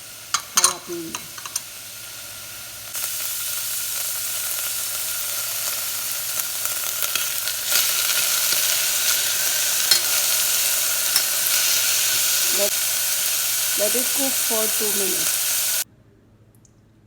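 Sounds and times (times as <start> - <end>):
vegetables sizzling in hot oil: 0.0 - 15.9.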